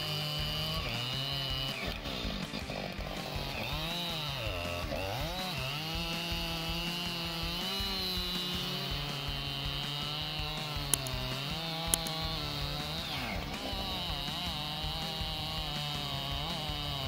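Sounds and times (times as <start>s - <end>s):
chainsaw cutting tree trunk: 0.0s - 17.0s.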